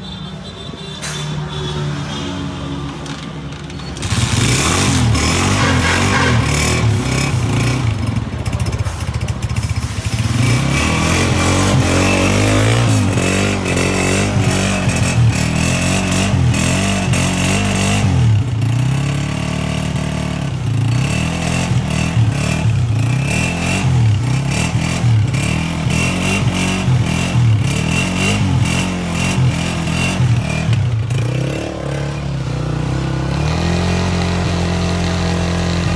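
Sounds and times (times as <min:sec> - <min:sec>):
motorcycle engine revving: 0:01.6 - 0:35.9.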